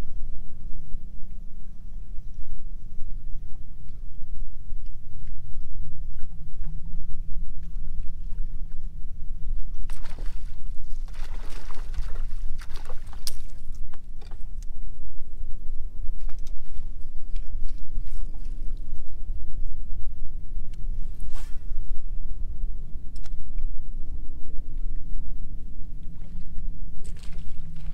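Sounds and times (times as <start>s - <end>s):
boat engine rumble: 0.0s - 27.9s.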